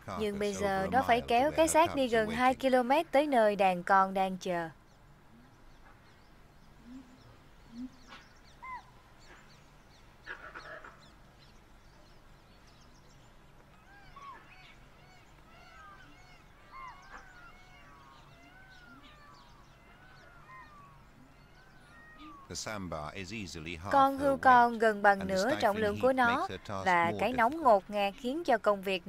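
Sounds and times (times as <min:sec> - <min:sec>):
wild birds chirping and whistling: 0:04.8 - 0:28.7
harsh bird calls: 0:05.3 - 0:28.7.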